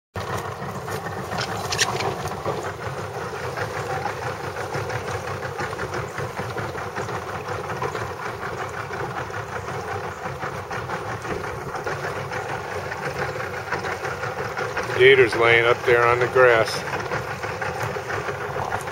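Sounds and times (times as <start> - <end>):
boat motor running: 0.2 - 18.9.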